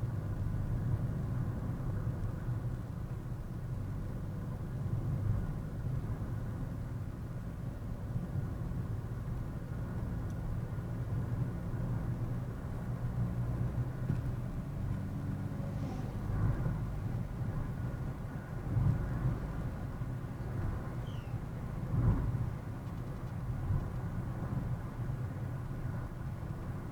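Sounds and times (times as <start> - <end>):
car engine and road noise: 0.0 - 26.9.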